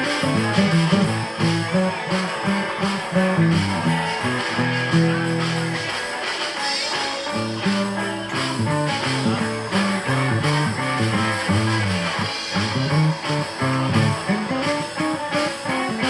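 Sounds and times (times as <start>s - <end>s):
blues-rock band playing: 0.0s - 16.0s
guitar picking bent notes: 0.0s - 16.0s.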